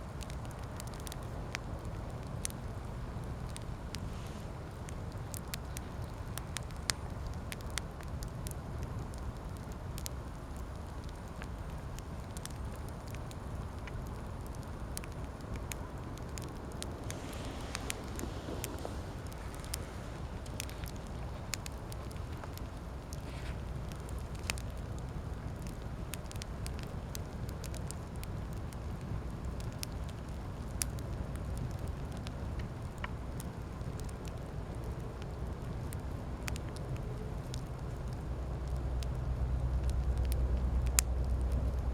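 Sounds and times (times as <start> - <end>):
campfire crackling and popping: 0.0 - 41.9
low rumble of fire: 0.0 - 41.9.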